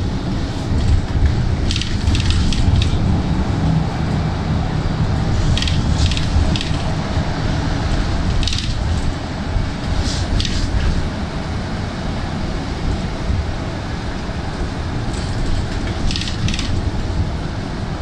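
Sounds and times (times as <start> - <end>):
bus interior rumble: 0.0 - 18.0.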